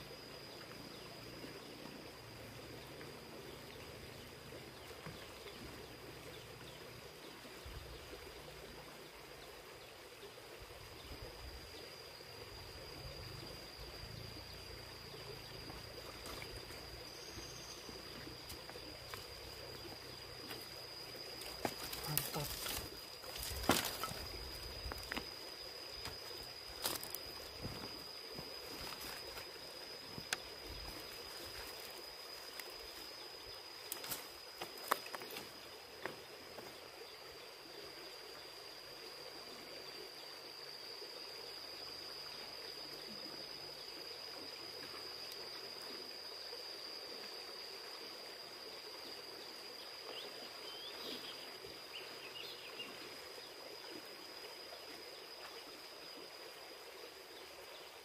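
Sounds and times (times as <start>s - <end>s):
river water flowing: 0.1s - 52.3s.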